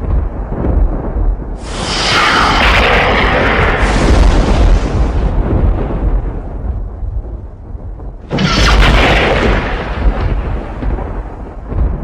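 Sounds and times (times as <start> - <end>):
thunder crack: 0.0 - 12.0
thunder rumbling: 0.0 - 12.0.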